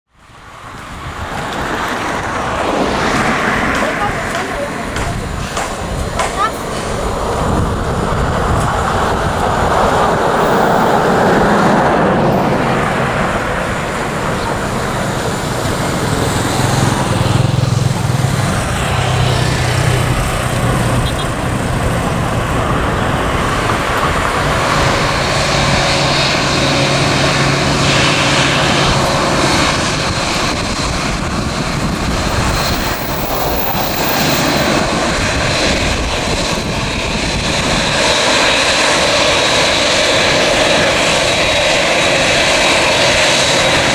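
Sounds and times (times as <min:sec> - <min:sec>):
jet engines running: 0:00.1 - 0:43.9.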